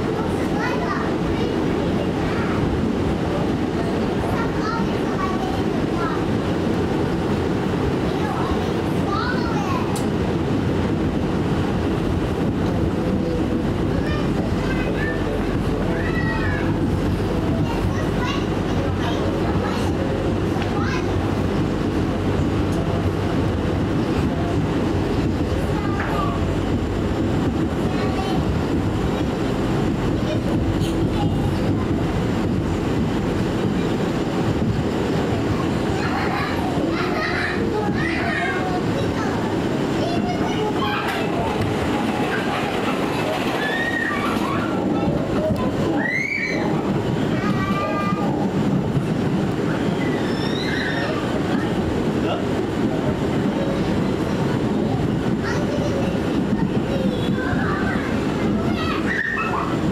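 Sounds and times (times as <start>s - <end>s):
subway car rumbling: 0.0s - 59.9s
wheels on rails: 0.0s - 59.9s.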